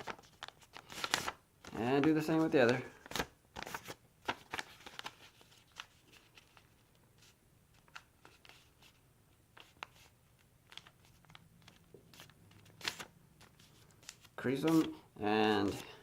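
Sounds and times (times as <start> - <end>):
paper rustling and crinkling: 0.0 - 9.0, 9.6 - 16.0.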